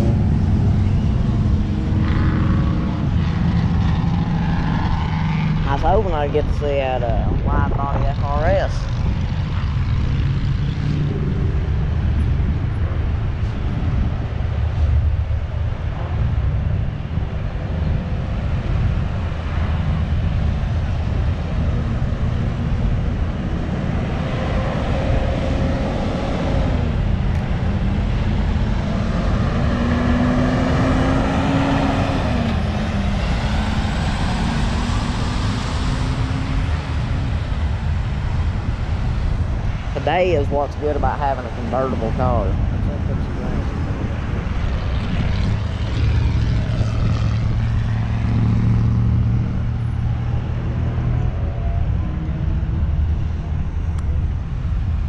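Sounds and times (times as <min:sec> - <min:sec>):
engine revving and shifting gear: 0:00.0 - 0:13.8, 0:18.4 - 0:37.6, 0:41.7 - 0:53.3
traffic rumble with tyre hiss: 0:00.0 - 0:55.0
truck passing: 0:00.0 - 0:55.0.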